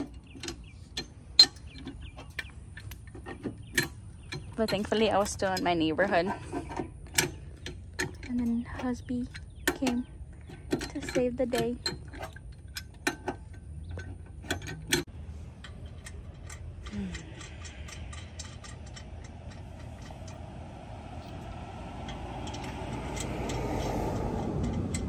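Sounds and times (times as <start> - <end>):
jack being cranked: 0.0 - 25.0
lug nuts clicking: 0.0 - 25.0.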